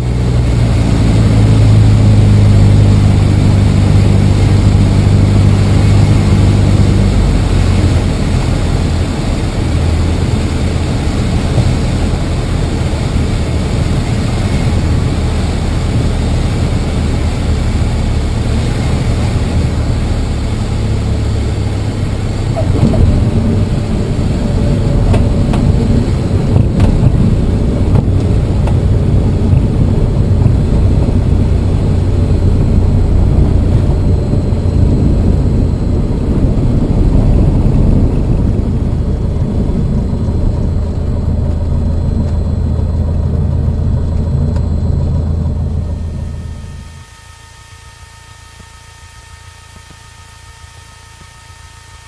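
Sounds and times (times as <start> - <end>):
aircraft engine and propeller: 0.0 - 52.0.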